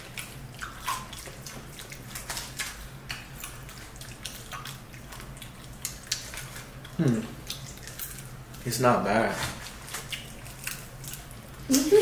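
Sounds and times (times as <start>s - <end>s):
people chewing crispy chicken: 0.0s - 12.0s.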